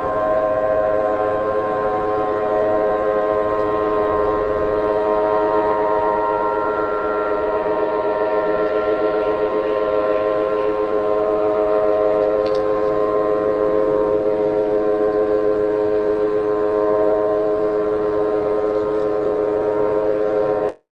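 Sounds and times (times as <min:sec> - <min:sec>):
alarm tone chord: 0:00.0 - 0:20.8.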